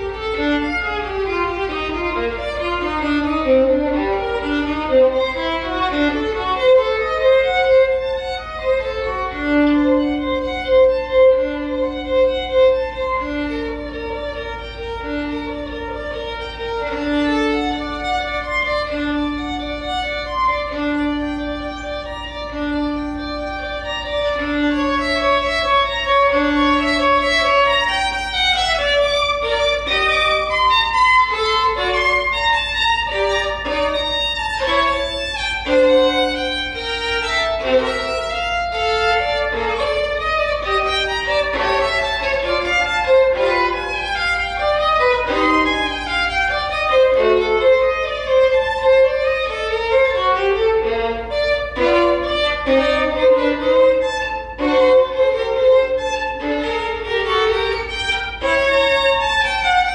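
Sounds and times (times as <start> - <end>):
solo violin playing: 0.0 - 59.9.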